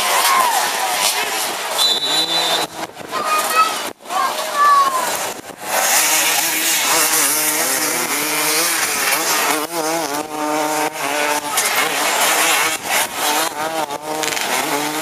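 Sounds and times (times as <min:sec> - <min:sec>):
racing engines revving: 0:00.0 - 0:15.0.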